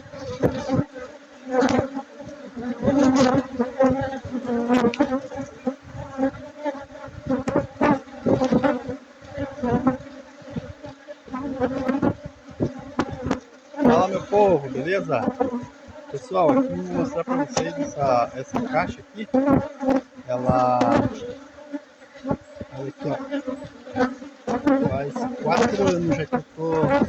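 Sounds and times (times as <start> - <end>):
honey bees buzzing: 0.0 - 27.0.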